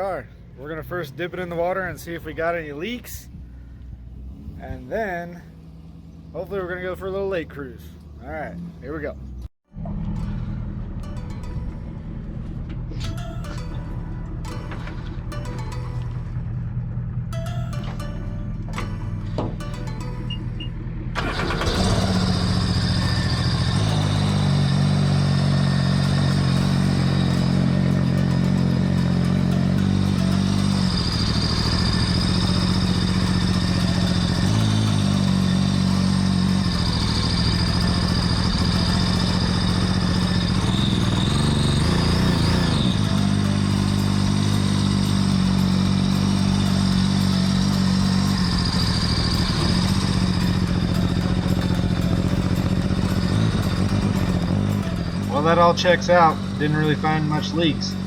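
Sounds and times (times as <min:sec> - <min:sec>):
boat engine idling: 0:09.3 - 0:58.0.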